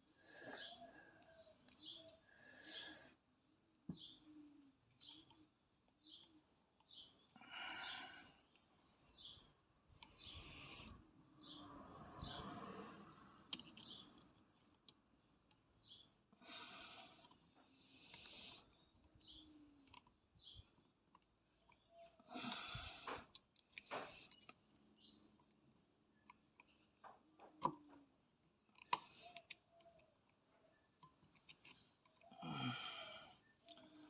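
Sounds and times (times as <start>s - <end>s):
birds chirping: 0.2s - 28.1s, 28.8s - 34.0s.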